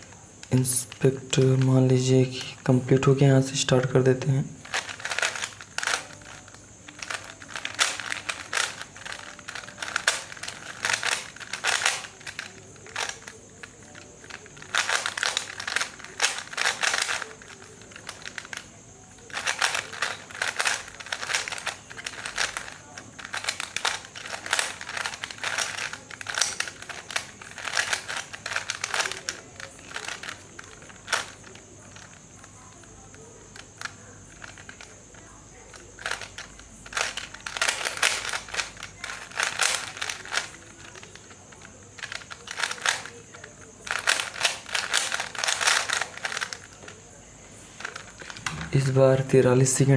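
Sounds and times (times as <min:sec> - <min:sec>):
puzzle cube clicking: 0:00.0 - 0:03.0, 0:03.7 - 0:47.0, 0:47.8 - 0:49.0.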